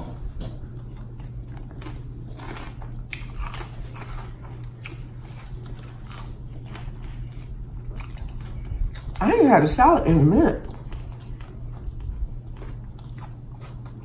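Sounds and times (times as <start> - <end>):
steady low hum: 0.0 - 14.0
chewing crisp lettuce: 0.4 - 9.4, 10.6 - 14.0.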